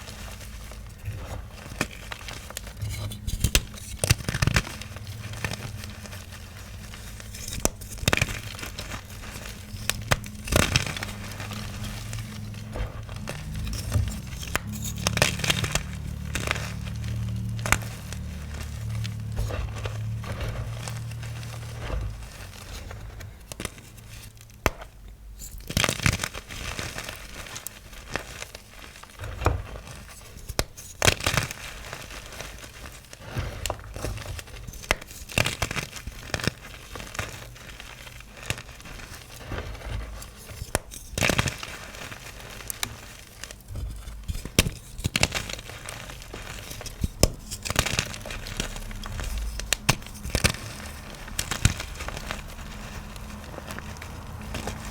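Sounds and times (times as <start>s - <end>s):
chalk crunching and crumbling: 0.0s - 54.9s.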